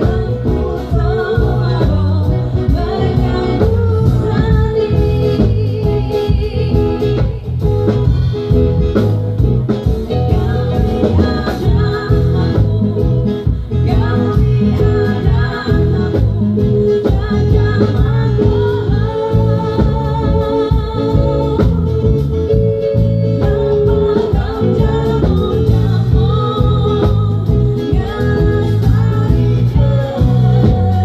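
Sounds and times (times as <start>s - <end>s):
band playing with singing: 0.0s - 31.0s.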